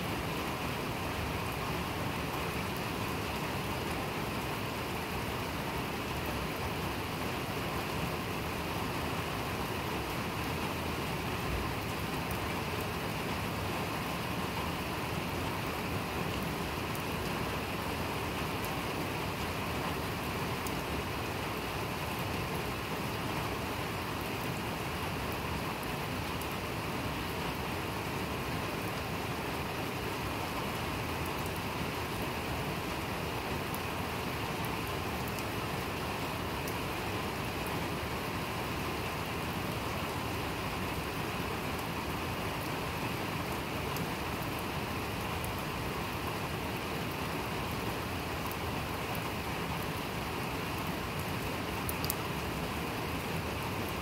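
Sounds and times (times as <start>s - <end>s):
steady rain hiss: 0.0s - 54.0s
ticks of raindrops: 0.0s - 54.0s.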